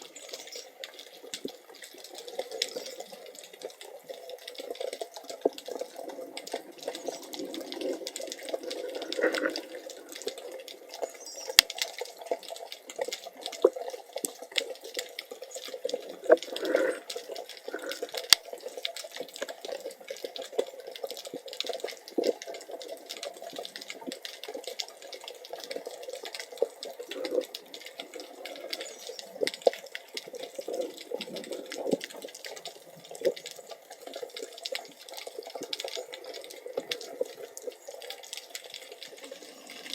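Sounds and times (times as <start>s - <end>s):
muffled underwater wash: 0.0s - 39.9s
underwater clicks and crackles: 0.0s - 39.9s.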